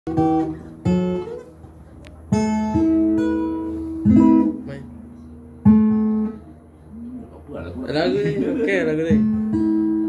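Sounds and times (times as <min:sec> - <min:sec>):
acoustic guitar strummed: 0:00.1 - 0:10.0.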